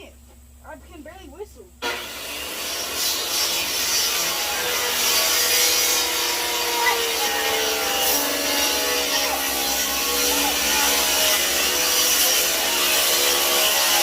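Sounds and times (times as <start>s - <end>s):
scraping on wood: 2.7s - 14.0s.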